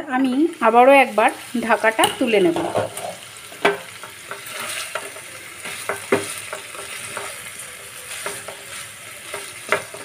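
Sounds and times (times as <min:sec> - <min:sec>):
vegetables sizzling in oil: 0:00.0 - 0:10.0
spatula tapping and scraping pan: 0:01.9 - 0:10.0.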